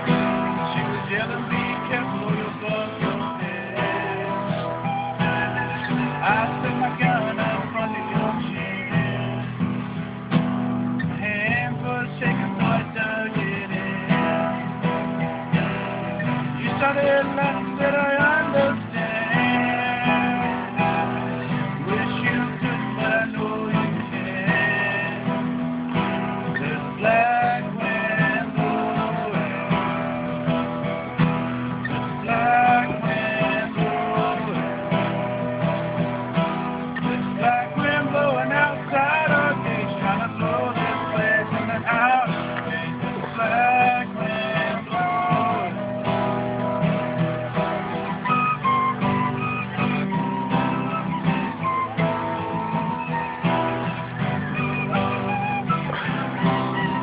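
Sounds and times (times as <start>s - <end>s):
recorder melody: 0.0s - 11.8s, 12.5s - 57.0s
acoustic guitar strumming: 0.0s - 57.0s.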